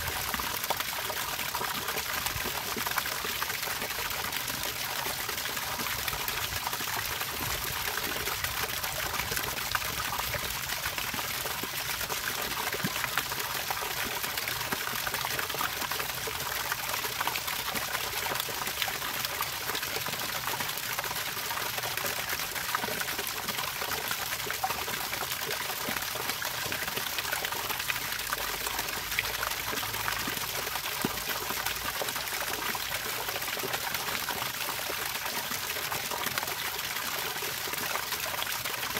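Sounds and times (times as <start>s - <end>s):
running water trickling and splashing: 0.0s - 38.9s.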